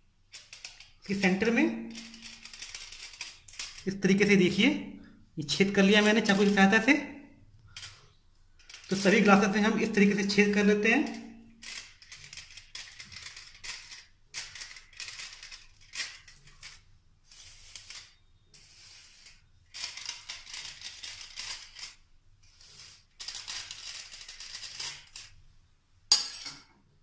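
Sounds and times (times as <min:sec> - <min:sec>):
aluminium foil crinkling: 0:00.2 - 0:04.0, 0:05.6 - 0:06.9, 0:07.7 - 0:18.2, 0:19.0 - 0:25.4.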